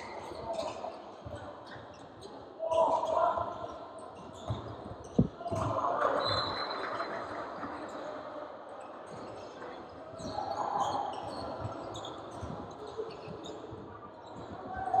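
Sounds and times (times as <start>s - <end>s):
sneaker squeaks: 0.0s - 8.0s, 9.1s - 15.0s.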